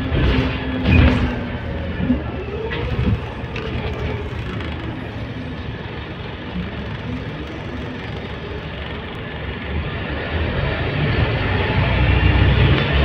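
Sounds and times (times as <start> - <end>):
bus diesel engine: 0.0 - 13.0
road noise: 0.0 - 13.0.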